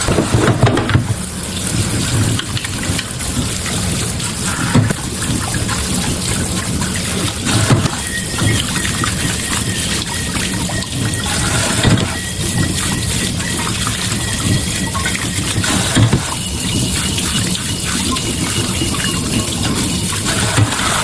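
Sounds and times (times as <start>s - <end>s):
water gushing and splashing: 0.0s - 21.0s.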